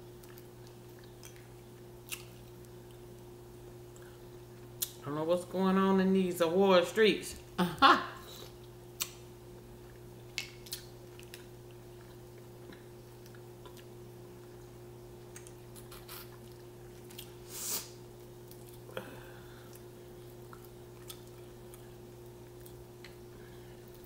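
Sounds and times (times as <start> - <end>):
chewing and peeling crawfish: 0.0 - 5.0, 8.2 - 24.0
steady low hum: 0.0 - 24.0.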